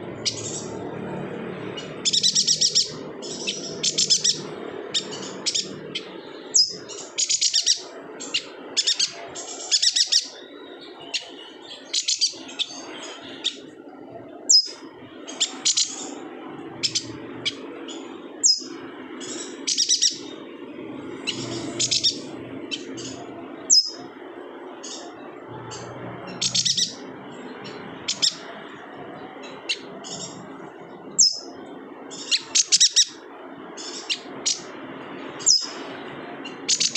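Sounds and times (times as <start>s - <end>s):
bird chirping rapidly: 0.0s - 13.8s, 14.4s - 28.6s, 29.4s - 36.9s
low background hum: 0.0s - 36.9s.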